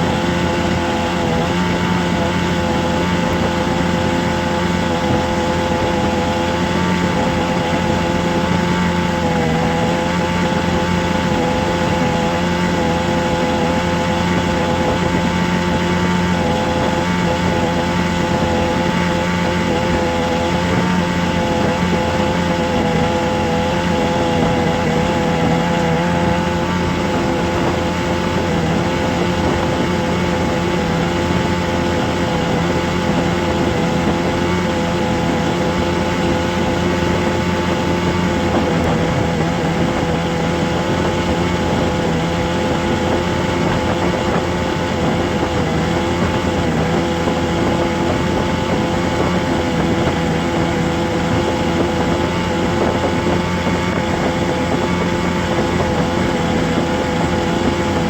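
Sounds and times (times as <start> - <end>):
motor drone: 0.0 - 58.0.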